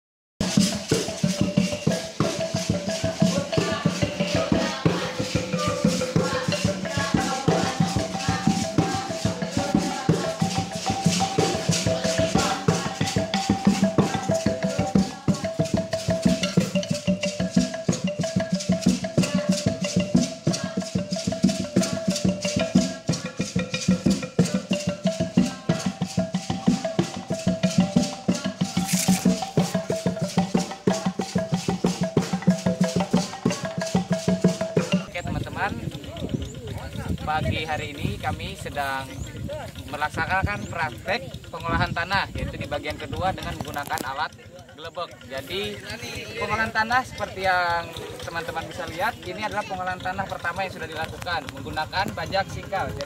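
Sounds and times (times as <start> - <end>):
fast percussion beat: 0.4 - 53.0
steady held notes: 0.4 - 53.0.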